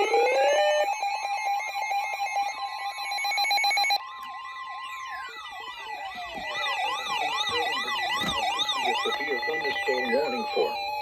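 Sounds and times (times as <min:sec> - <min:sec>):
fast pulsing alarm beep: 0:00.0 - 0:04.0, 0:04.8 - 0:11.0
electronic sirens wailing: 0:00.0 - 0:11.0.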